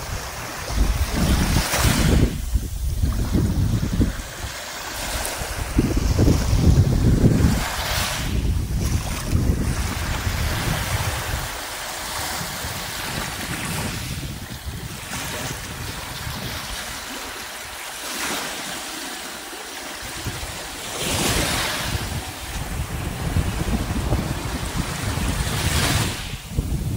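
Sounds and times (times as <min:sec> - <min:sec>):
wind rumble on microphone: 0:00.0 - 0:18.7, 0:19.9 - 0:26.9
waves lapping on sandy beach: 0:00.0 - 0:26.9.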